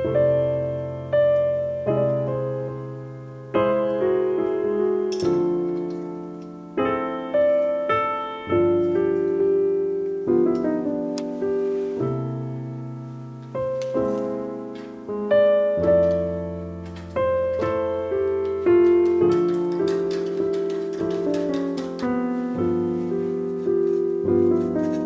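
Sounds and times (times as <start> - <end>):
slow solo piano piece: 0.0 - 25.0.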